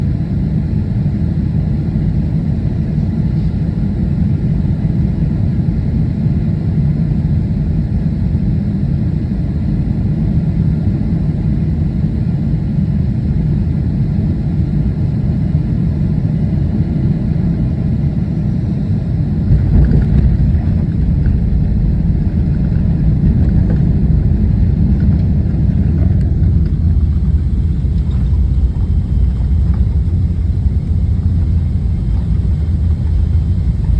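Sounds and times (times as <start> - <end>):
airliner engines rumbling: 0.0 - 33.9.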